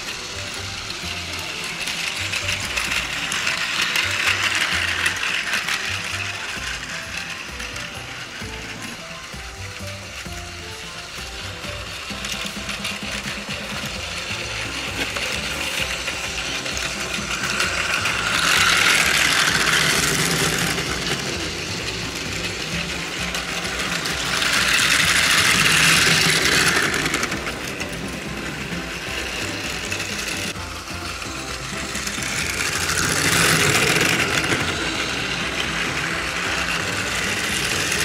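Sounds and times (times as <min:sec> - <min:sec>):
toy trains whirring on plastic track: 0:00.0 - 0:38.0.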